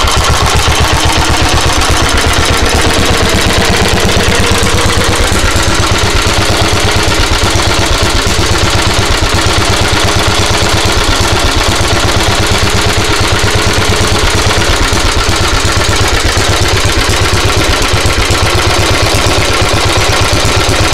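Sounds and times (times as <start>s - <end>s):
stationary engine running: 0.0s - 20.9s.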